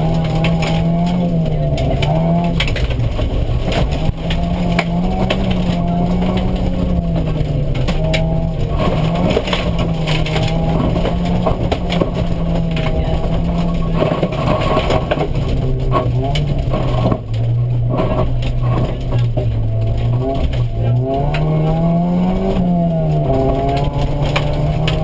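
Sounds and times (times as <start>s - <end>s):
gravel rattling under car: 0.0s - 25.0s
rally car engine running hard: 0.0s - 25.0s.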